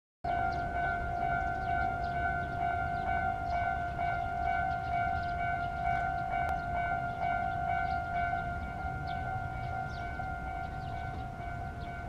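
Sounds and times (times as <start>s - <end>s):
level crossing alarm ringing: 0.3s - 12.0s.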